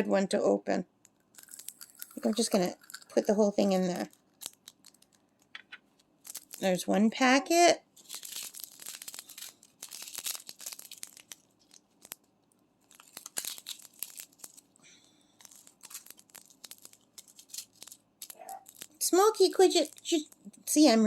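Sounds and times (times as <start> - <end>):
plastic bags crinkling and tearing: 1.2 - 6.8, 8.0 - 20.6.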